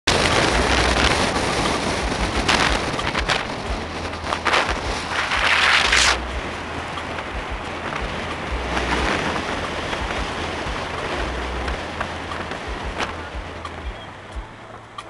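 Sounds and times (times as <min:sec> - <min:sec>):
car road noise: 0:00.0 - 0:15.0
wind rushing over microphone: 0:00.0 - 0:15.0.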